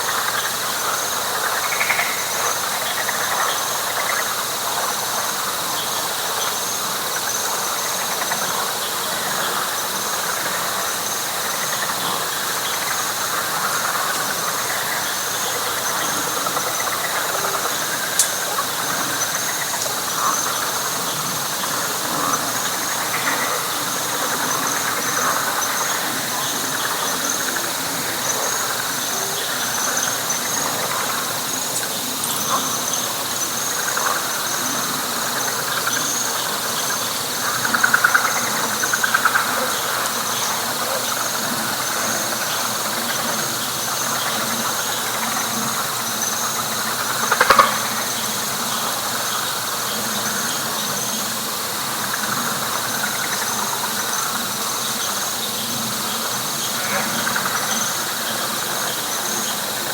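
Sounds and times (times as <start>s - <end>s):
frogs calling: 0.0s - 59.9s
louder pulsed frog calls: 0.0s - 59.9s.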